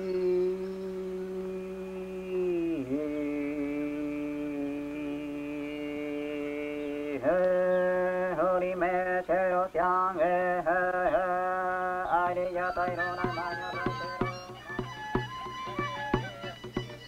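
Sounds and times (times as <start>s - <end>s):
person chanting held notes: 0.0s - 17.0s.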